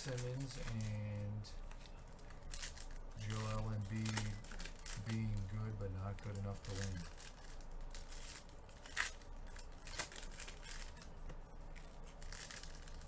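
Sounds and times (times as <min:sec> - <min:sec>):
foil wrappers tearing and crinkling: 0:00.0 - 0:13.0
sharp foil crackles: 0:00.0 - 0:13.0.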